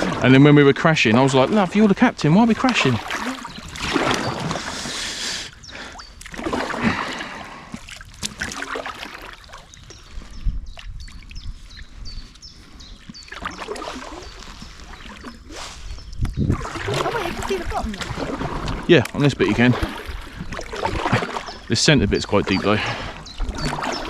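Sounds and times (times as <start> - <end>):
paddle strokes splashing in water: 0.0 - 12.0, 12.6 - 24.0.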